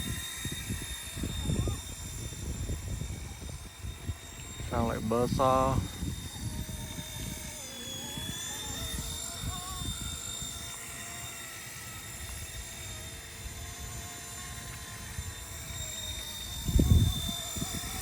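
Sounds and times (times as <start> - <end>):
remote-control helicopter whine: 0.0 - 18.0
wind on microphone: 0.0 - 18.0.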